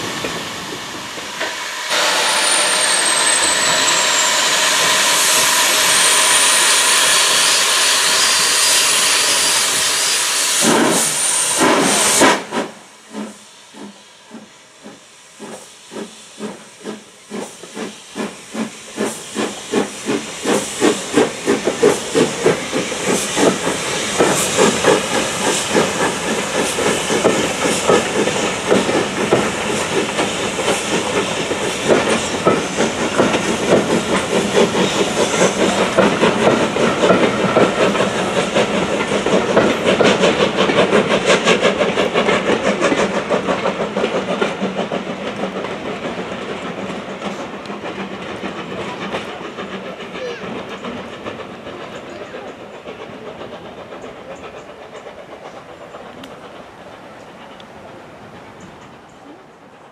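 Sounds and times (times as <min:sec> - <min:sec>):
hiss of steam: 0:00.0 - 0:59.9
steam locomotive exhaust chuffing: 0:00.0 - 0:59.9
train coaches rolling by: 0:00.0 - 0:59.9.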